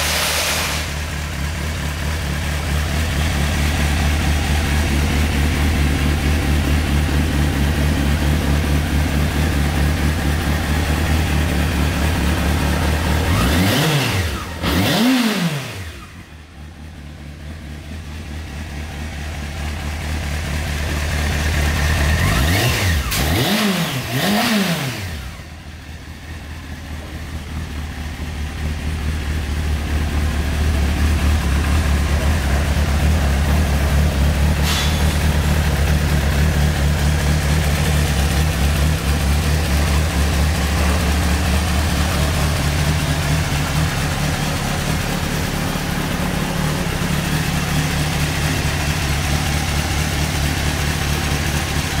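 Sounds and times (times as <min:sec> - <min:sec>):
motorcycle engine idling: 0:00.9 - 0:52.0.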